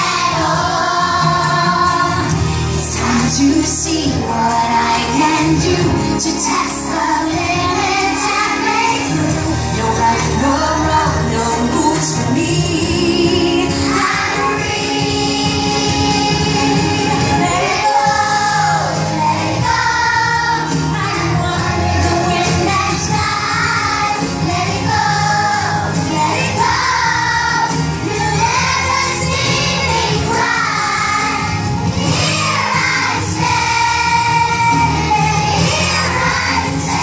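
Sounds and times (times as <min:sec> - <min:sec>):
accompanying music: 0:00.0 - 0:37.0
children's choir singing: 0:00.0 - 0:37.0.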